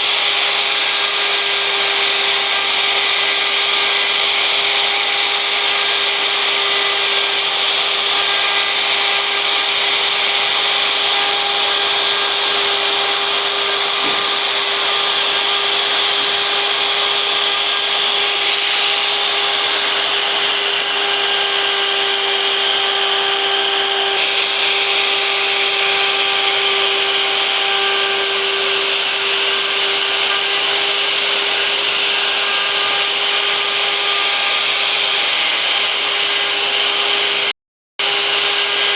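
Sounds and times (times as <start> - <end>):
router spindle whine: 0.0 - 38.9
wood cutting hiss: 6.1 - 38.9.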